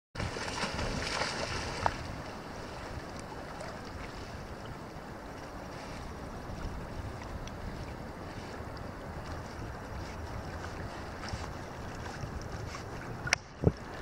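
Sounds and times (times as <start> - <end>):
crackling water noise: 0.2 - 14.0
water lapping: 0.2 - 14.0
wind rumbling on microphone: 0.2 - 14.0.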